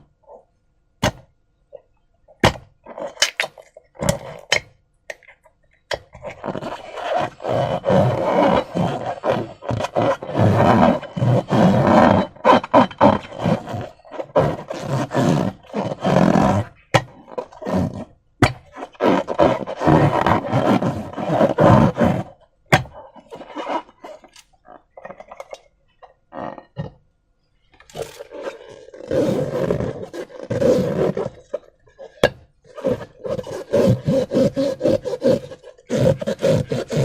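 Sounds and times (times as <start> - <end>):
rubbery balloon stretching: 2.4 - 4.7, 5.9 - 27.0, 27.8 - 37.0.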